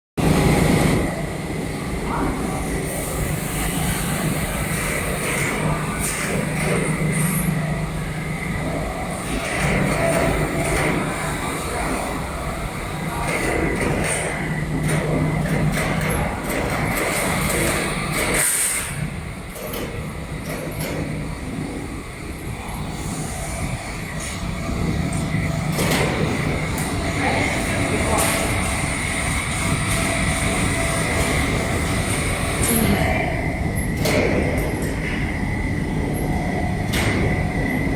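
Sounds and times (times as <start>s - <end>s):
machinery humming: 0.2s - 37.9s.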